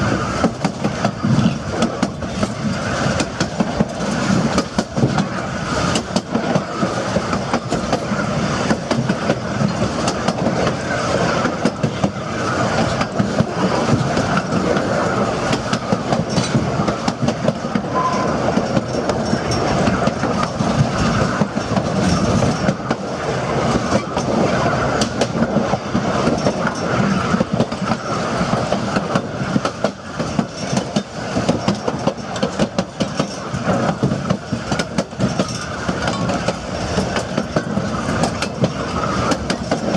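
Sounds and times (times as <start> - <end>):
train wheels rumbling on rail: 0.0 - 39.9
wheels clicking on rail joints: 0.0 - 39.9.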